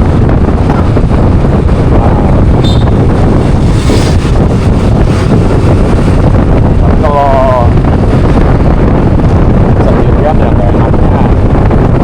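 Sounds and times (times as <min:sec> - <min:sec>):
scooter road and engine noise: 0:00.0 - 0:12.0
wind rushing over microphone: 0:00.0 - 0:12.0.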